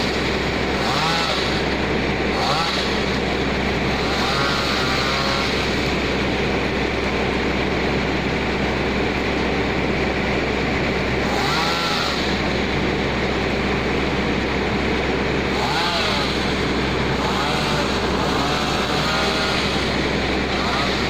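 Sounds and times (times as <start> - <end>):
machine engine running steadily: 0.0 - 21.0.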